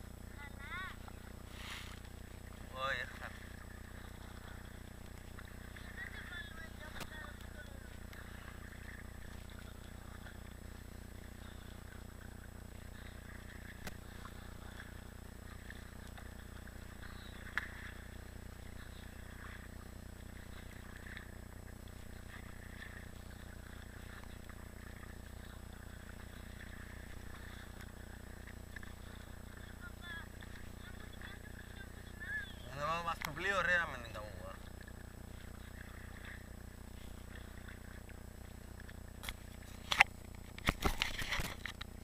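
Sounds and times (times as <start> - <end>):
paddle splashes: 0.0 - 42.0.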